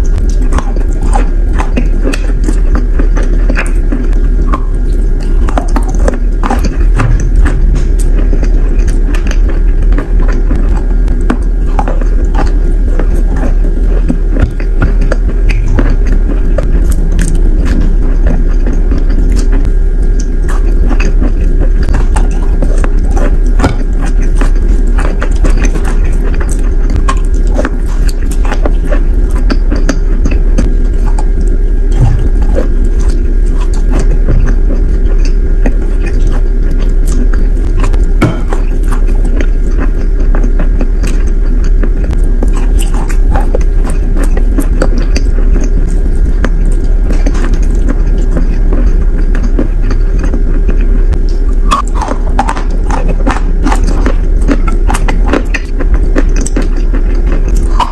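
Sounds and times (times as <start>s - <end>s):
chalk crunching while chewed: 0.0s - 57.9s
low steady hum: 0.0s - 57.9s.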